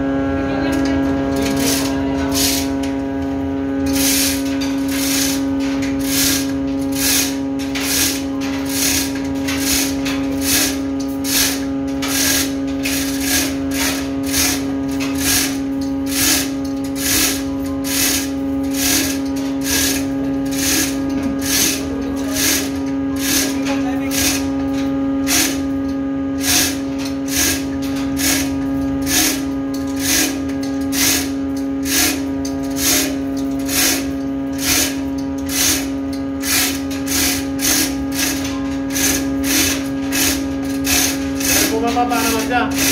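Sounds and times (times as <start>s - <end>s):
machinery hum: 0.0s - 42.9s
chain hoist ratcheting rattle: 1.3s - 2.7s, 3.8s - 42.9s.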